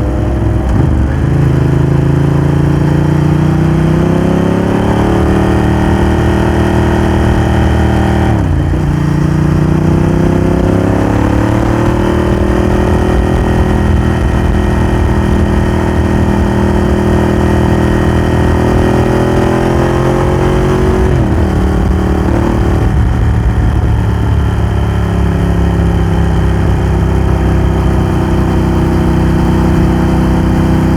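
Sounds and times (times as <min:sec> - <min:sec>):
motorcycle engine shifting gears: 0:00.0 - 0:30.9.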